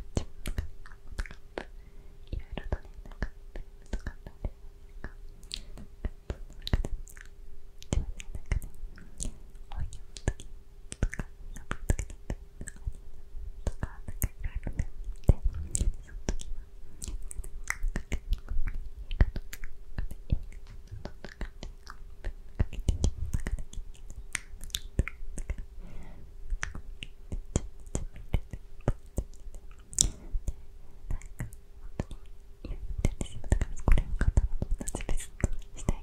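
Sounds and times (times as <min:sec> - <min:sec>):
wet mouth clicks and lip smacks: 0:00.2 - 0:01.7, 0:05.0 - 0:12.9, 0:13.7 - 0:25.7, 0:26.5 - 0:32.3, 0:33.0 - 0:36.0.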